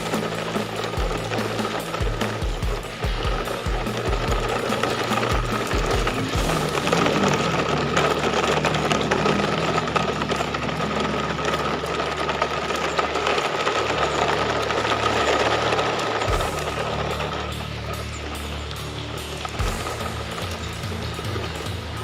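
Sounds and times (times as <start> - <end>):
toy motor whirring: 0.0 - 22.0.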